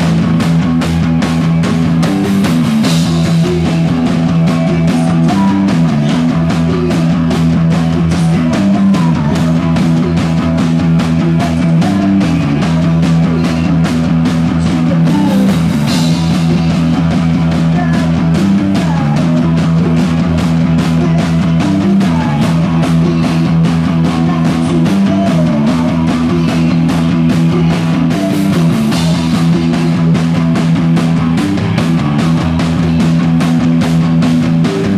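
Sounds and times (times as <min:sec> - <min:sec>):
distorted guitar notes: 0:00.0 - 0:34.9
fast drumbeat: 0:00.0 - 0:34.9.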